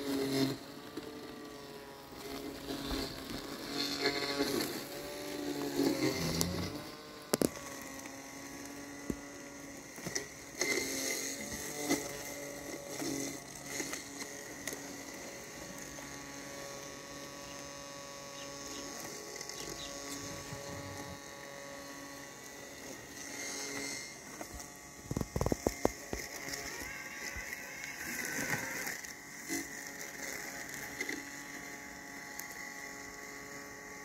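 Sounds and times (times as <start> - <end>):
robotic lawn mower motor whine: 0.0 - 34.0.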